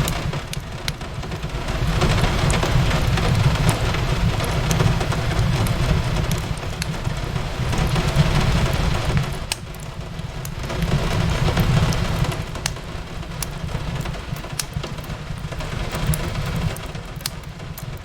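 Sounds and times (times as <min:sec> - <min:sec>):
steady rain: 0:00.0 - 0:18.0
wood fire crackling: 0:00.0 - 0:18.0.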